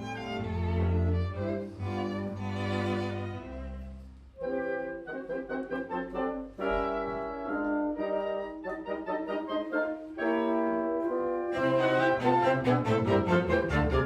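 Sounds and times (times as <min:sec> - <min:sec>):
chamber orchestra playing: 0:00.0 - 0:14.0.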